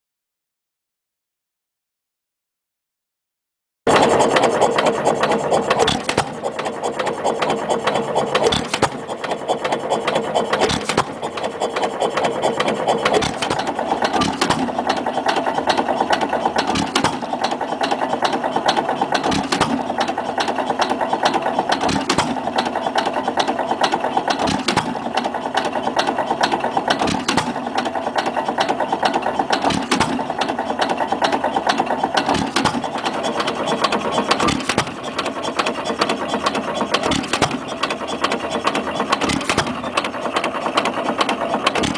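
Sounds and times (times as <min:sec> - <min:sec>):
stationary engine clattering: 0:03.9 - 0:41.9.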